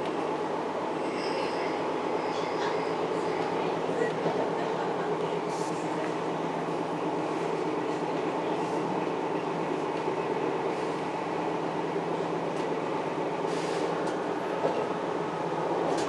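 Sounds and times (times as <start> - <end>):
train rumble from inside: 0.0 - 16.0.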